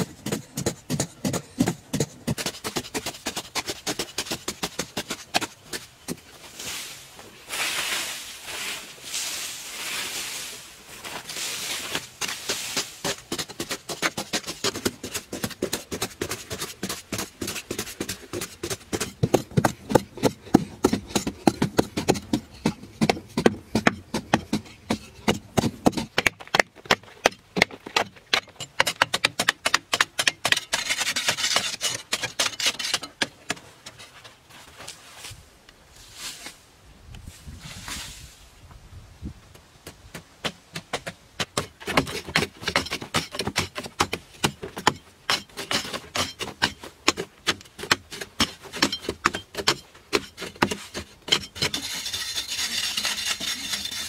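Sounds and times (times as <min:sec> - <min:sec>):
digging tools chopping earth: 0:00.0 - 0:06.7, 0:11.0 - 0:34.1, 0:39.5 - 0:54.0
scraping soil: 0:00.0 - 0:38.6, 0:41.0 - 0:54.0.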